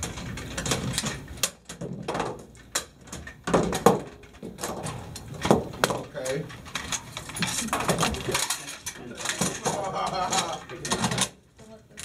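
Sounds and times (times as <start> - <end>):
metal parts clacking: 0.0 - 12.0.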